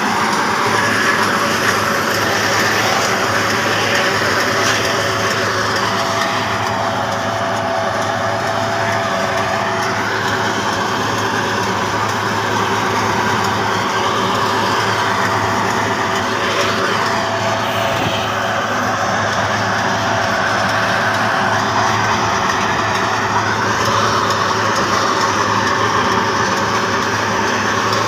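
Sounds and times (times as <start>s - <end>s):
diesel tractor engine running: 0.0s - 28.0s
steady whine: 0.0s - 28.0s.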